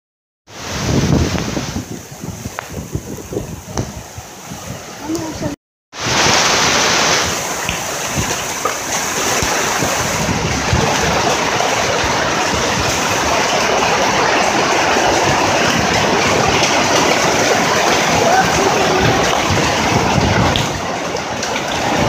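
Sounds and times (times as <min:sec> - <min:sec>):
heavy rain pouring: 0:00.5 - 0:22.0.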